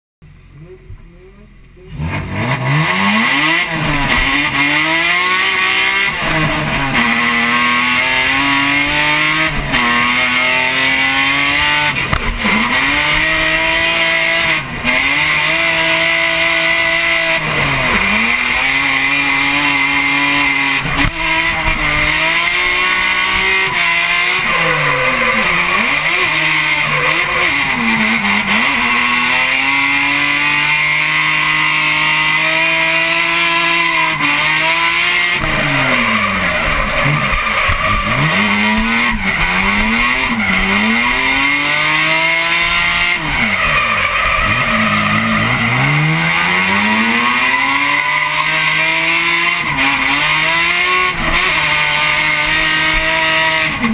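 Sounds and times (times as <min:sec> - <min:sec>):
car engine revving hard: 0:00.5 - 0:53.9
tyre squeal: 0:03.2 - 0:53.9.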